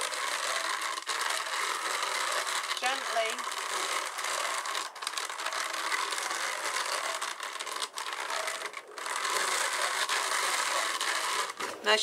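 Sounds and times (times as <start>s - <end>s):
hand-cranked drum carder whirring: 0.0s - 12.0s.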